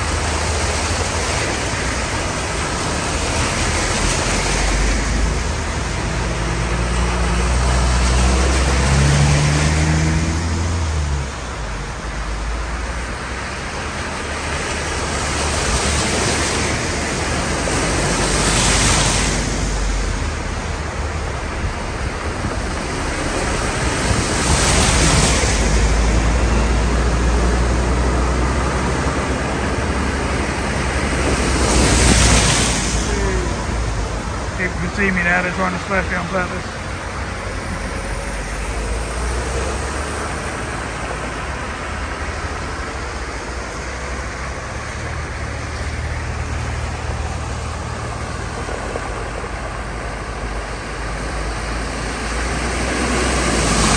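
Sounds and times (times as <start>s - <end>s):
tyres throwing up water spray: 0.0s - 53.9s
water splashing: 0.0s - 53.9s.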